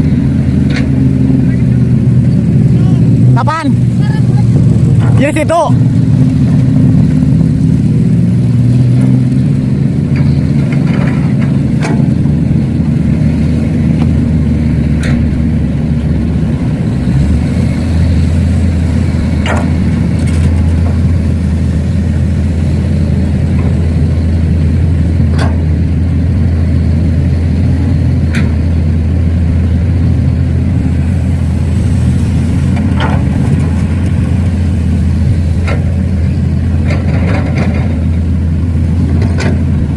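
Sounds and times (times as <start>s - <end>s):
large engine running: 0.0s - 39.9s.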